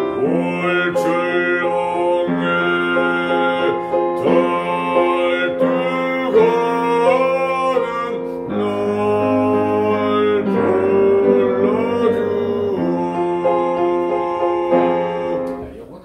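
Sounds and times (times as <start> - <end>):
man singing classical song: 0.0 - 15.8
piano accompaniment: 0.0 - 16.0.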